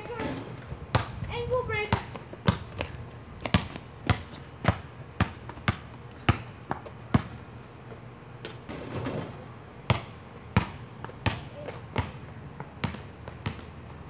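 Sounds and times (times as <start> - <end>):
basketball bouncing on asphalt: 0.0 - 14.0.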